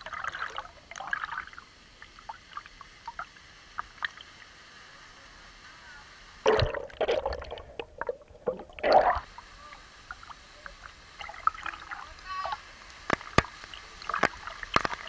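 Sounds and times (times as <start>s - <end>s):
water sloshing and gurgling: 0.0s - 4.3s, 6.4s - 15.0s
water splashes: 0.0s - 4.6s, 6.4s - 15.0s.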